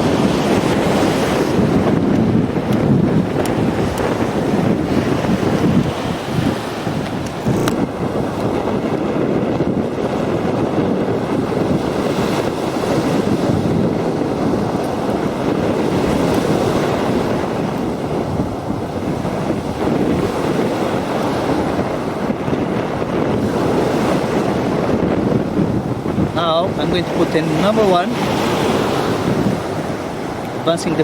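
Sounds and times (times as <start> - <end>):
sea surf on beach: 0.0 - 31.0
wind buffeting microphone: 0.0 - 31.0.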